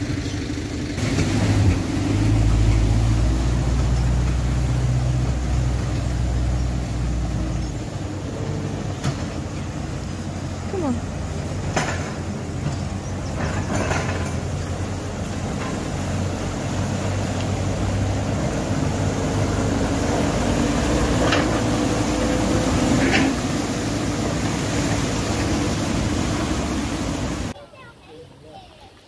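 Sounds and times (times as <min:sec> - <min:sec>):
diesel engine running: 0:00.0 - 0:27.5
water churning and splashing: 0:00.8 - 0:27.6.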